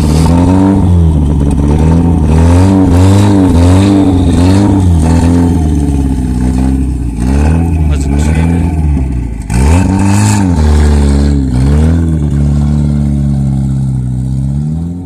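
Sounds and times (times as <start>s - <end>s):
straight-piped engine revving: 0.0s - 15.0s.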